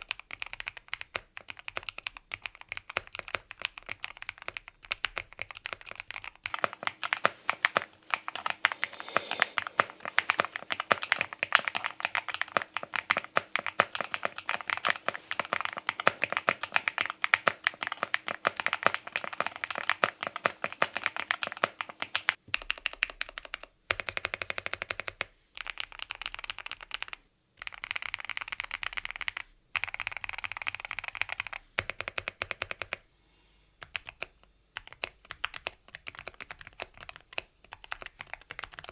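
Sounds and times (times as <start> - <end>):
mechanical keyboard typing: 0.0 - 33.0, 33.8 - 38.9.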